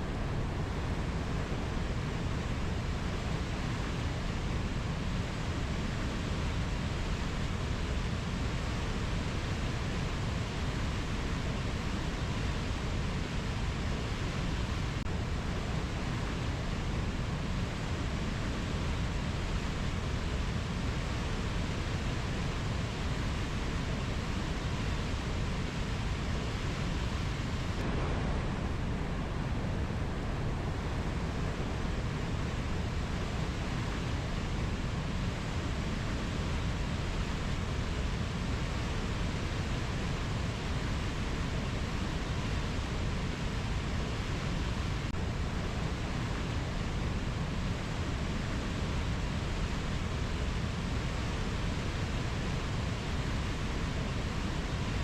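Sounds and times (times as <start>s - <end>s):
rainforest rushing ambience: 0.0s - 55.0s.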